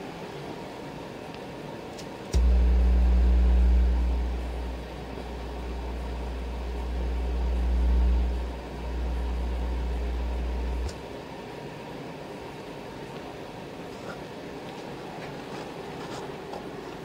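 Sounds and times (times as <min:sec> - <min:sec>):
low hum from speakers: 0:00.0 - 0:17.0.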